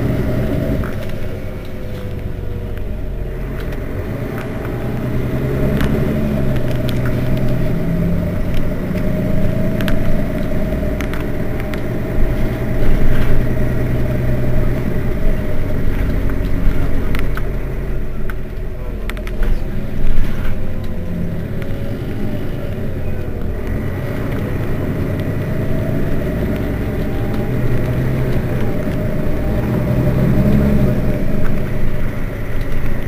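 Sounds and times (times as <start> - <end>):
bus engine idling: 0.0 - 33.0
steady whine: 0.0 - 33.0.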